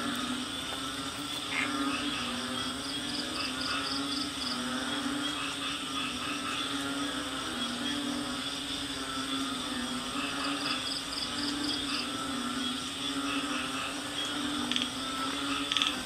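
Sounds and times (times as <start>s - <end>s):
droning frog and insect chorus: 0.0s - 16.0s.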